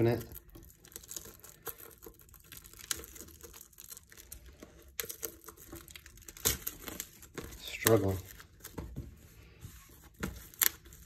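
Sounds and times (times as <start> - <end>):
plastic shrink-wrap crinkling: 0.0 - 11.0.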